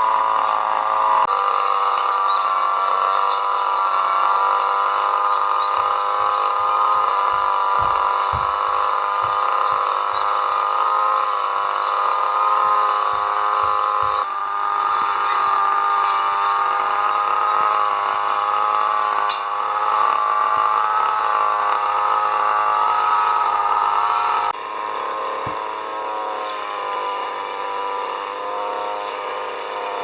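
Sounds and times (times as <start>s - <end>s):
small engine power tool running: 0.0s - 30.0s.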